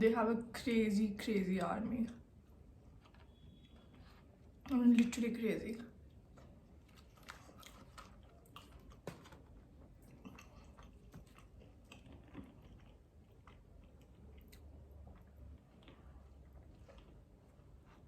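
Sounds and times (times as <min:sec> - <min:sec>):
faint chewing with crunches: 0:02.1 - 0:05.2, 0:05.8 - 0:18.0.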